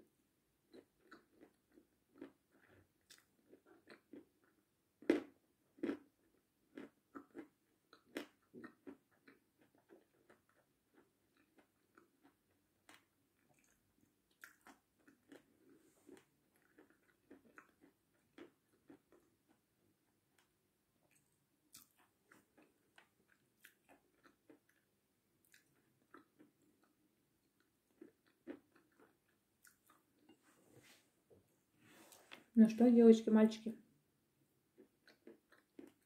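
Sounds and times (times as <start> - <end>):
chewing grapes: 0.7 - 30.4, 34.7 - 36.0.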